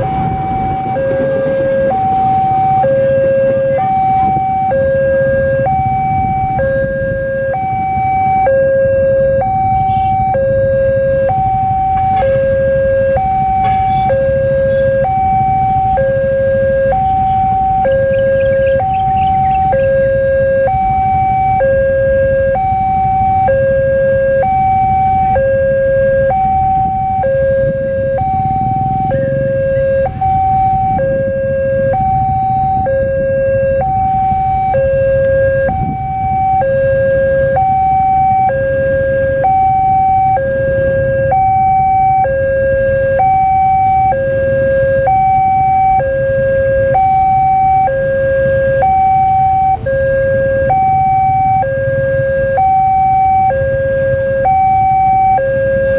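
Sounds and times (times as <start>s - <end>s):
engines idling: 0.0s - 55.9s
level crossing two-tone alarm: 0.0s - 55.9s.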